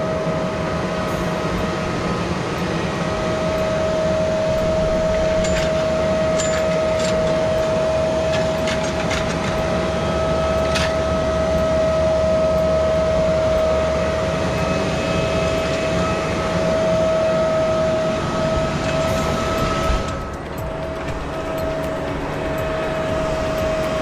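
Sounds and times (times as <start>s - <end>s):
high-pitched whine: 0.0s - 24.0s
tractor engine running: 0.7s - 24.0s.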